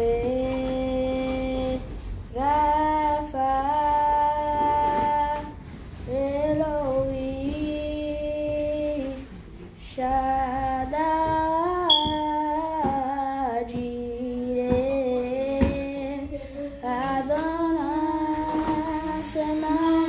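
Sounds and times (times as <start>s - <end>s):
girl singing: 0.0s - 20.0s.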